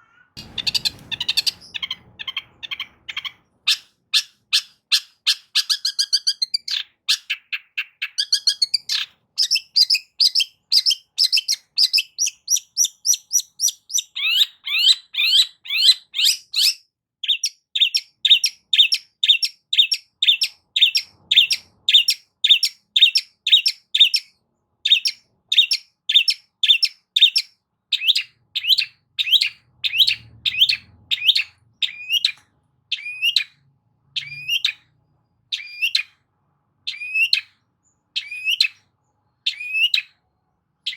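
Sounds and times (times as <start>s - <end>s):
bird singing sharp repeated notes: 0.4s - 24.3s, 24.9s - 36.2s, 36.9s - 40.2s.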